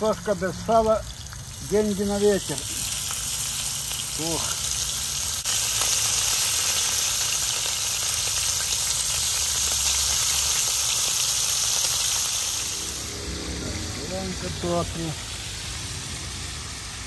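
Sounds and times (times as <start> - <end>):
pork fat sizzling in a pan: 0.0 - 17.0.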